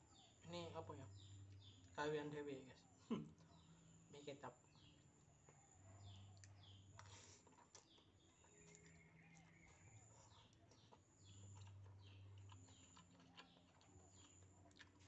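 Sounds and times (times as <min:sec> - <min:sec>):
bird chirps: 0:00.0 - 0:02.2, 0:02.8 - 0:14.6.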